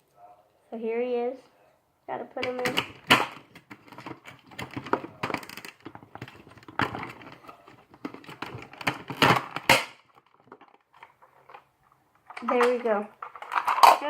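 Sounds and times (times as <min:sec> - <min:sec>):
plastic toy parts clicking and knocking: 0:02.4 - 0:14.0.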